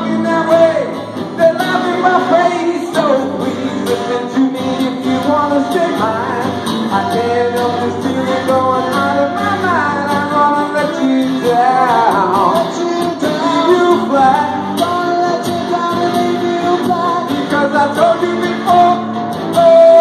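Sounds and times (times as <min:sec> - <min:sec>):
acoustic and electric guitars: 0:00.0 - 0:20.0
man singing: 0:00.0 - 0:20.0.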